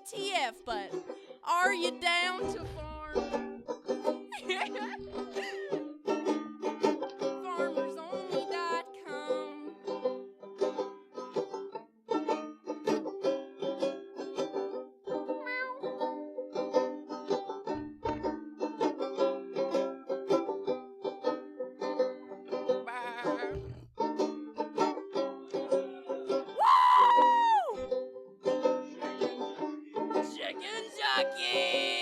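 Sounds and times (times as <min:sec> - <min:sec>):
plucked string instrument picking: 0:00.0 - 0:32.0.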